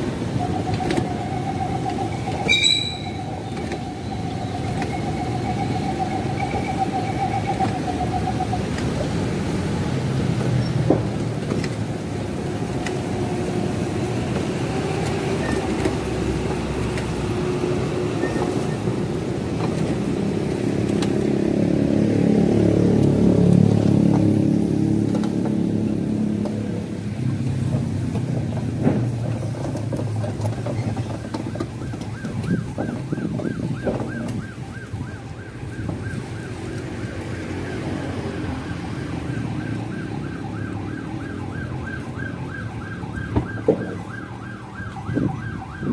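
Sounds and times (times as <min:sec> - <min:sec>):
engine hum: 0:00.0 - 0:45.9
wagons rumbling on rails: 0:00.0 - 0:45.9
wheels clicking on track: 0:00.0 - 0:45.9.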